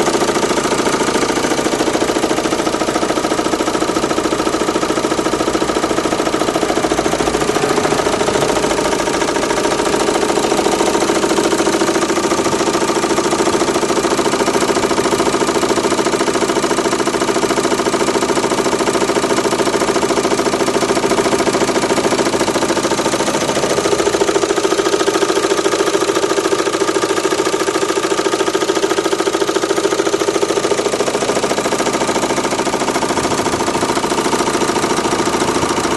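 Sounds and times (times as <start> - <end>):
diesel engine idling with knock: 0.0 - 35.9.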